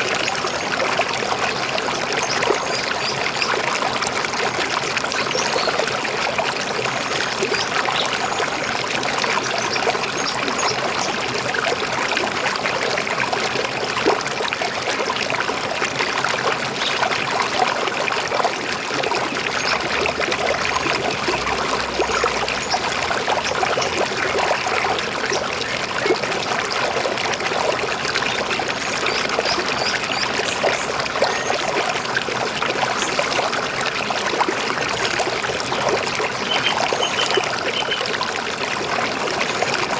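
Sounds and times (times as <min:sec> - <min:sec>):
river water gurgling: 0:00.0 - 0:39.9.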